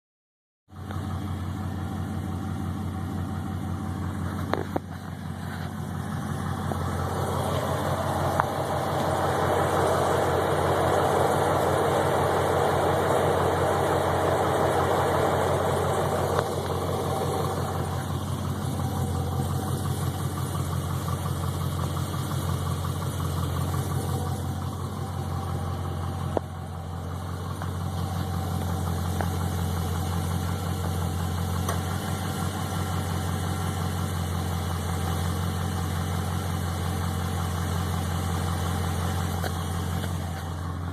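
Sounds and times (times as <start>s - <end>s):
engine idling with rapid knock: 0.7s - 40.9s.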